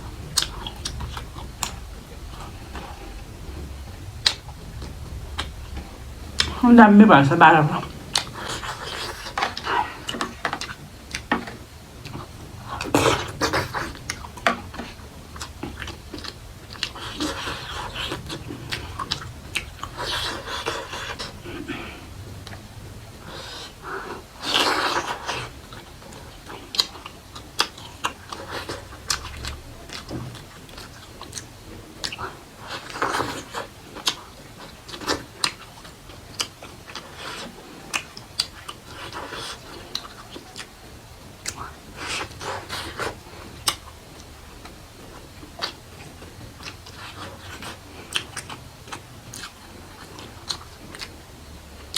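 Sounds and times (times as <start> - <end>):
close-miked chewing: 0.0 - 51.9.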